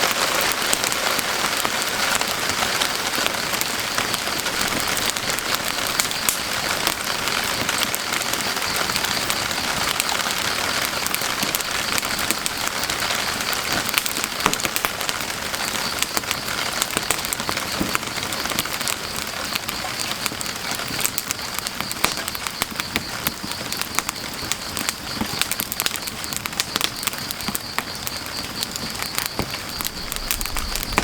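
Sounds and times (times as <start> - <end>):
firewood crackling: 0.0 - 31.0
steady rain falling: 0.0 - 31.0.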